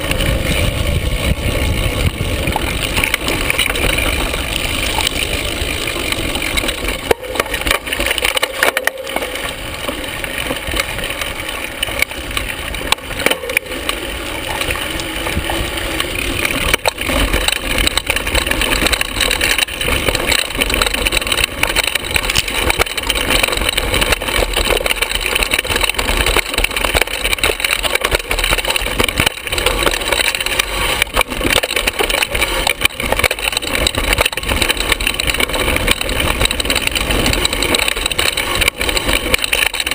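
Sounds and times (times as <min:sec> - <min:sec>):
bike knocks and rattles: 0:00.0 - 0:39.9
bike tyres rumbling over dirt: 0:00.0 - 0:39.9.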